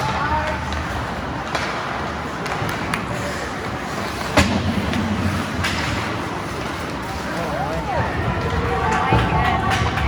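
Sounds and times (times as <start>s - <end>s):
skates scraping on ice: 0.0s - 10.0s
sticks and puck clacking: 0.0s - 10.0s.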